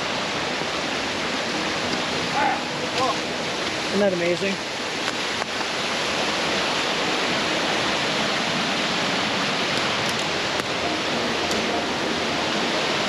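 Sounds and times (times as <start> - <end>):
waterfall into pool: 0.0 - 13.0.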